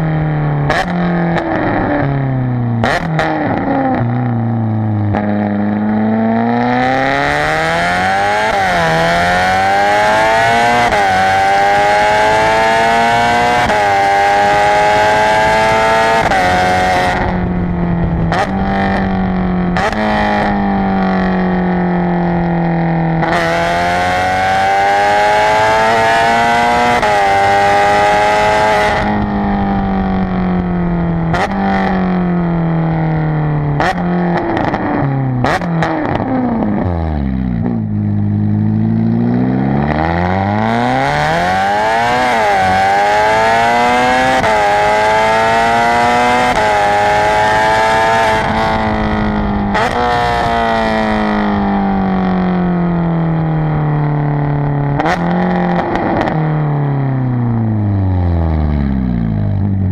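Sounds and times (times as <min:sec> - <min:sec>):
sports car engine revving: 0:00.0 - 0:59.9.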